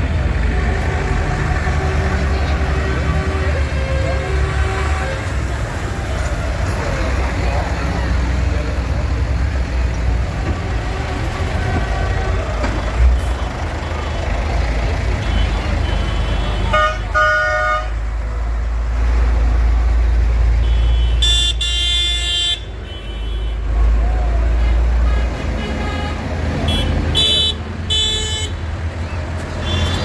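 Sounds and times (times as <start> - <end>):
tractor engines rumbling: 0.0 - 30.0.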